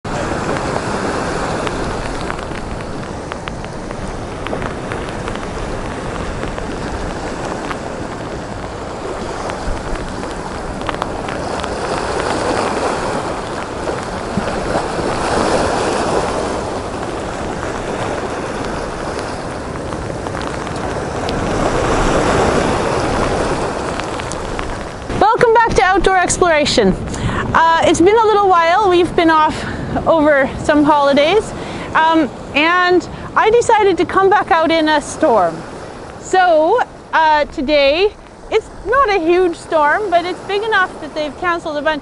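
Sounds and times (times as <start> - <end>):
surf breaking on rocky shore: 0.0 - 42.0
wind: 0.0 - 42.0.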